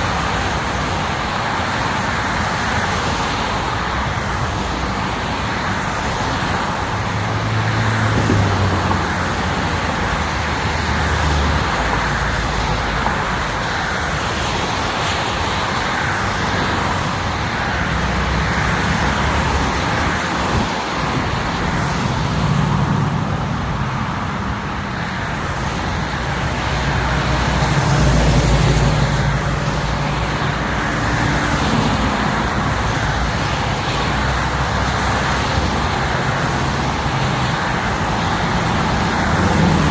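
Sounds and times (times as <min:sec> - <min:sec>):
road and tyre rush: 0:00.0 - 0:39.9.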